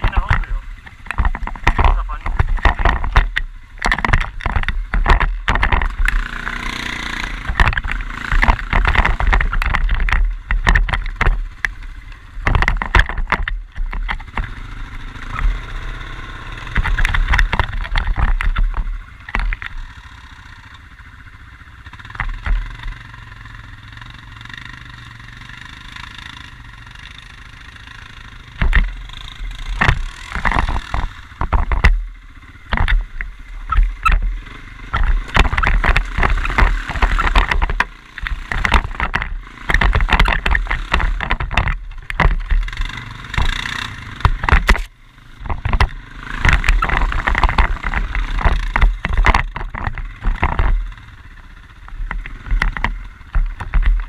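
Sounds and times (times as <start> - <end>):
quad bike engine running: 0.0 - 54.0
sharp knocks and rattles: 0.0 - 54.0.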